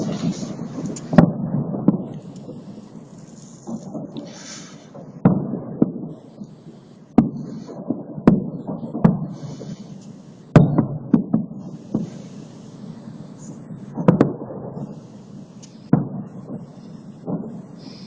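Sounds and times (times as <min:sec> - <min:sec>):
firework booms with rumbling echo: 0:00.0 - 0:18.0.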